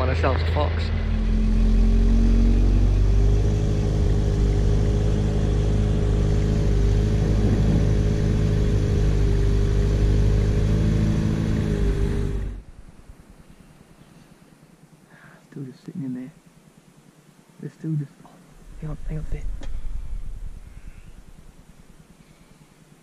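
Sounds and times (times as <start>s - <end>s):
engine running: 0.0s - 15.0s, 16.0s - 23.0s.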